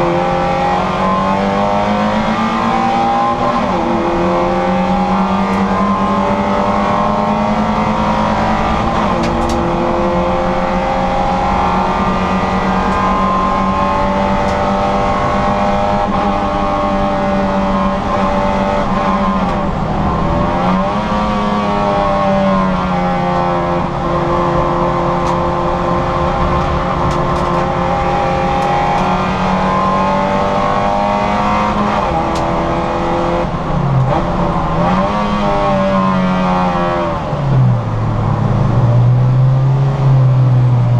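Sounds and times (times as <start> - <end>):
car engine revving high: 0.0 - 40.9.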